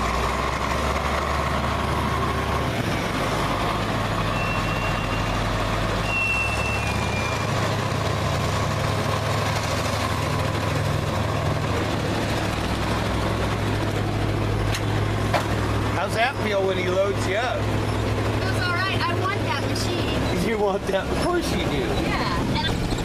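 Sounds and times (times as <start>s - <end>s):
truck engines idling: 0.0s - 23.0s.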